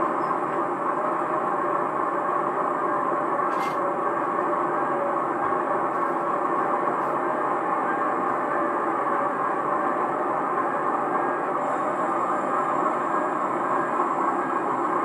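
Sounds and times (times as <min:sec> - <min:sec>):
diesel train running: 0:00.0 - 0:15.0.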